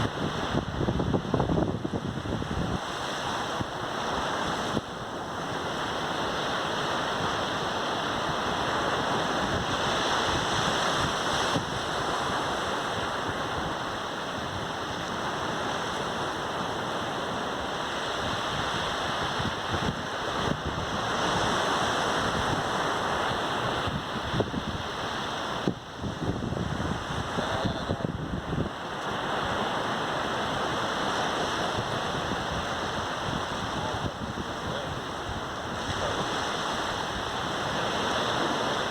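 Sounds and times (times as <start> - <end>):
waves washing onto beach: 0.0 - 38.9.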